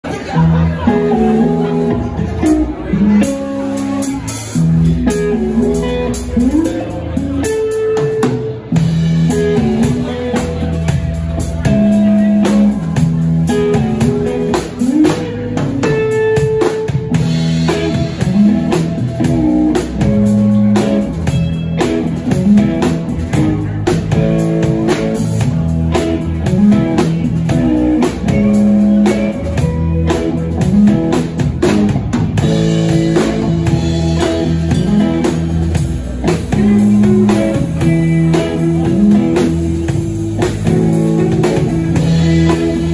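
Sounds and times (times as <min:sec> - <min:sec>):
bass line: 0:00.0 - 0:42.9
drum kit: 0:00.0 - 0:42.9
electric guitars: 0:00.0 - 0:42.9.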